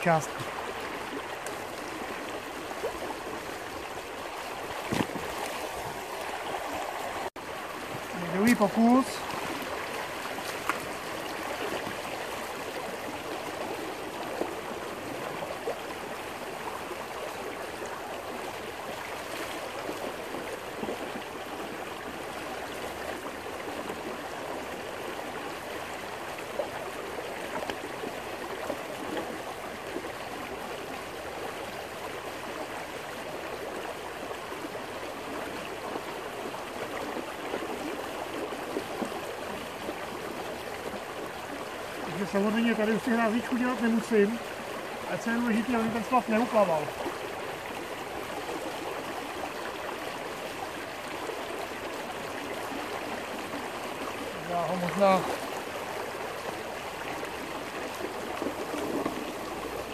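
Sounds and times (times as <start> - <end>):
creek running over stones: 0.0 - 59.9.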